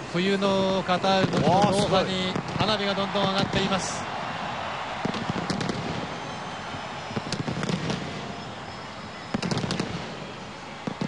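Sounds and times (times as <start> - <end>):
crowd noise: 0.0 - 11.0
fireworks bangs and crackles: 0.6 - 11.0.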